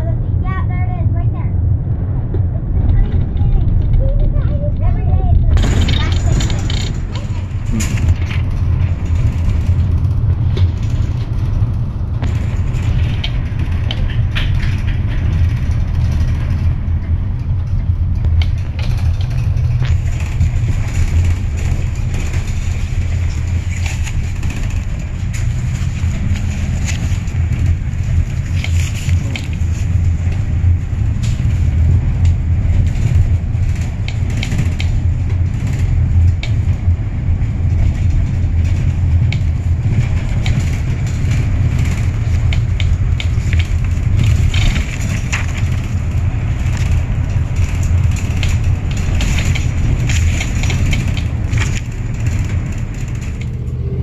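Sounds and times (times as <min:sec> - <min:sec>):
car rumbling in motion: 0:00.0 - 0:54.0.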